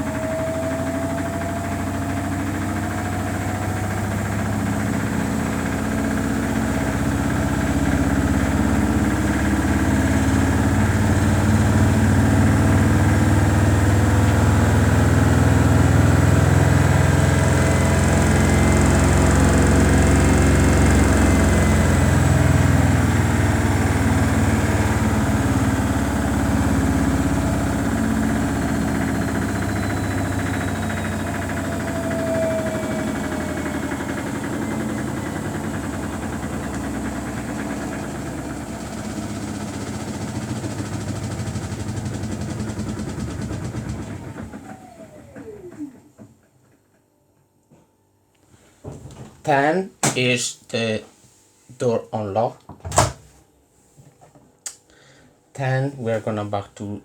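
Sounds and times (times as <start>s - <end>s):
motor winding down whine: 0.0s - 46.1s
washing machine drum spinning: 0.0s - 46.2s.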